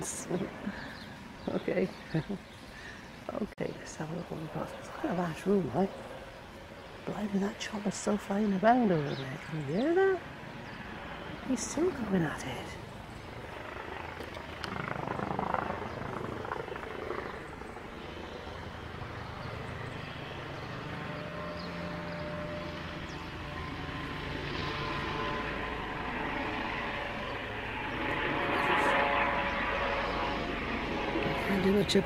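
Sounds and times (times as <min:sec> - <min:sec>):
helicopter rotor and engine drone: 0:00.0 - 0:32.0.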